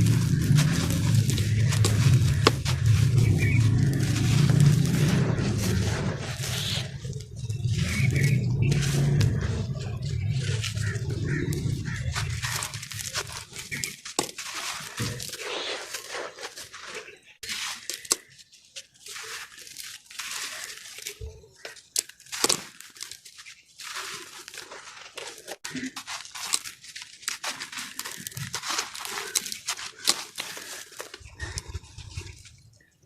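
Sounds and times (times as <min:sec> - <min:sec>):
sand-cement being crushed: 0:00.0 - 0:31.8.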